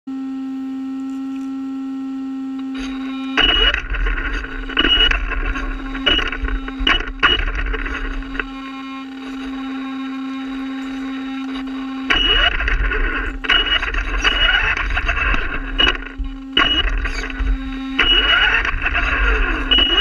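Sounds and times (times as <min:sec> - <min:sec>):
steady electrical whine: 0:00.1 - 0:20.0
toy car motor whirring: 0:02.7 - 0:20.0.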